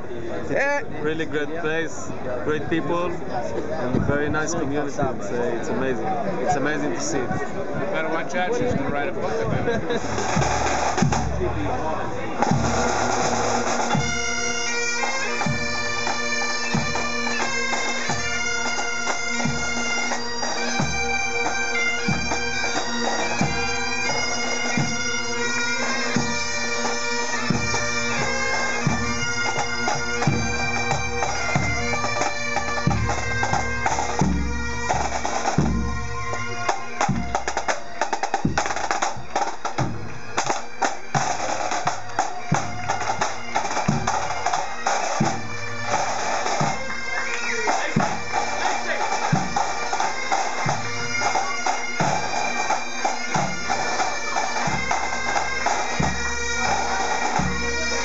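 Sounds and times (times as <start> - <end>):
drums beating march rhythm: 6.6 - 58.0
bagpipes playing a tune: 9.9 - 11.3, 12.3 - 58.0.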